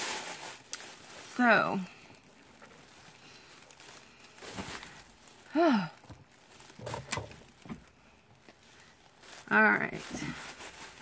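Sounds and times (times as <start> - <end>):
wrappers crinkling: 0.0 - 11.0.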